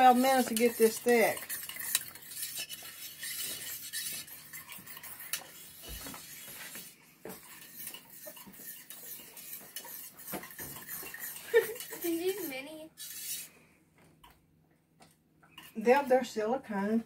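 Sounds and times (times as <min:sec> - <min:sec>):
whisk scraping metal saucepan: 0:00.0 - 0:13.6, 0:15.5 - 0:16.1.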